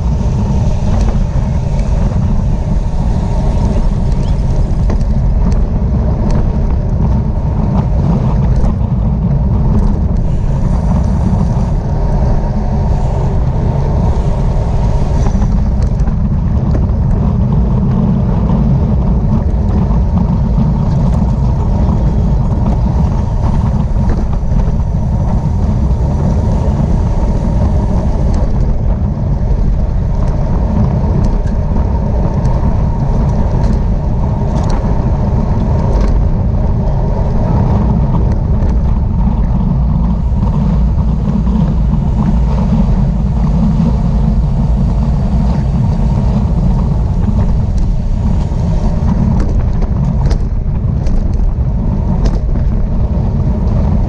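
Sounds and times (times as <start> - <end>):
road rumble: 0.0 - 54.0
wind rush: 0.0 - 54.0.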